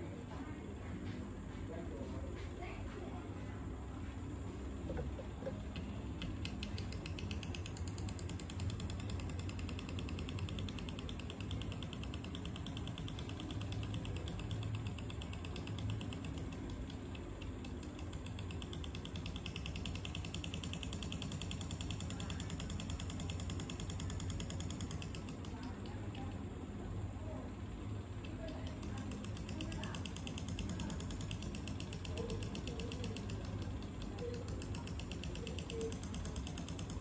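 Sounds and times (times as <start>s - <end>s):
rapid even clicking: 4.9s - 26.5s, 28.0s - 37.0s
small electric motor humming: 4.9s - 26.5s, 28.2s - 37.0s.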